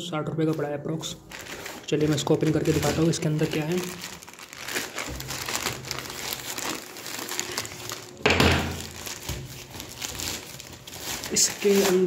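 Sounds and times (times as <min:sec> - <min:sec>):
plastic rustling and crinkling: 0:00.3 - 0:12.0
knife cutting plastic mailer: 0:01.4 - 0:12.0.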